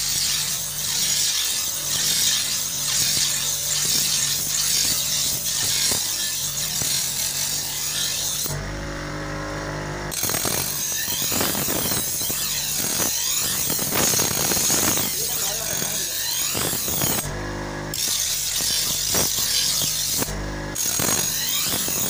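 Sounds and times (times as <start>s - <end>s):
blade grinding on wheel: 0.0s - 22.0s
grinder motor humming: 0.0s - 22.0s.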